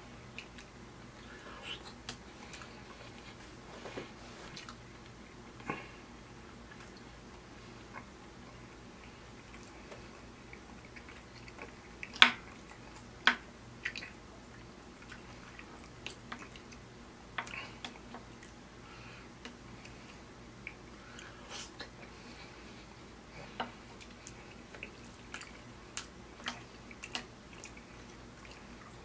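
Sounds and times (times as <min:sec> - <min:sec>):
chewing and wet mouth sounds: 0:00.2 - 0:29.0.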